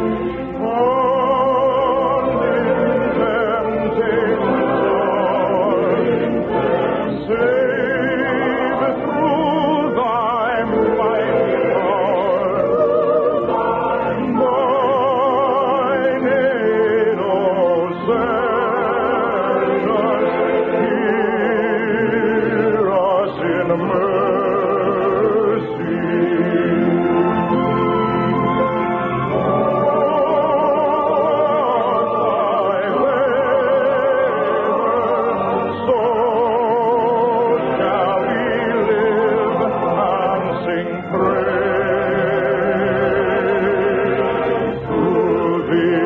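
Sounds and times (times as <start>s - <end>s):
choir singing in harmony: 0.0s - 46.0s.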